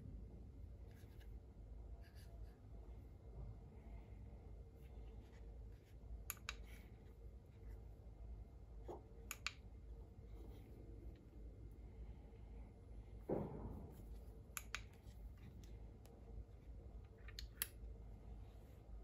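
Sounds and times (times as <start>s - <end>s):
faint low rumble: 0.0s - 19.0s.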